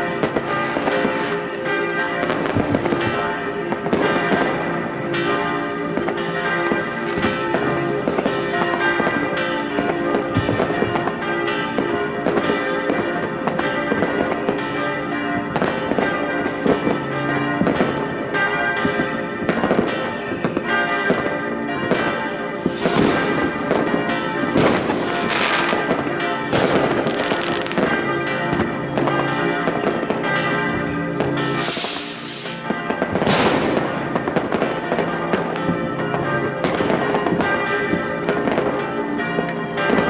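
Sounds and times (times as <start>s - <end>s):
church bells pealing: 0.0s - 40.0s
fireworks banging and crackling: 0.0s - 40.0s.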